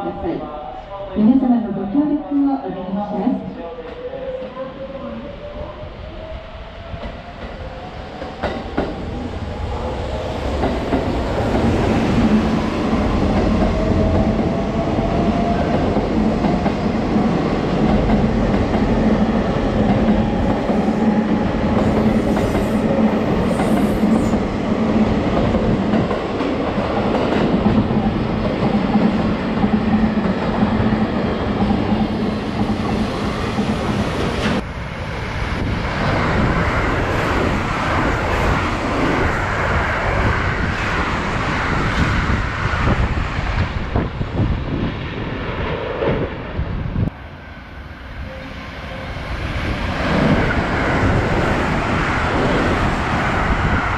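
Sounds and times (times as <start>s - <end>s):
train wheels rumbling on rail: 6.8s - 53.9s.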